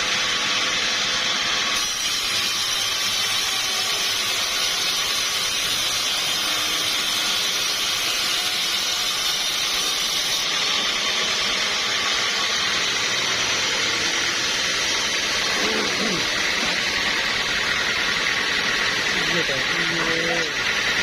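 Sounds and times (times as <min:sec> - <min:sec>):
sawmill saw and machinery running: 0:00.0 - 0:21.0.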